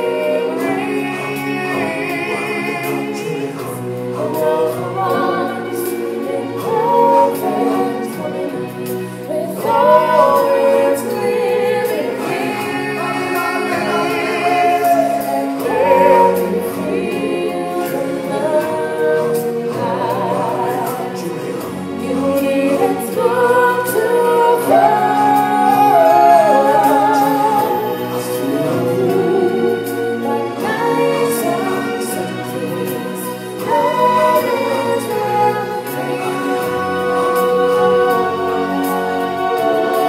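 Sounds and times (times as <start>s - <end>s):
choir singing with accompaniment: 0.0s - 40.0s.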